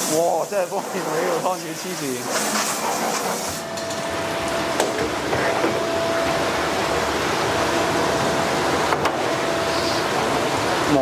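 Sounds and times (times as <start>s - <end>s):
water from hose into bucket: 0.0s - 11.0s.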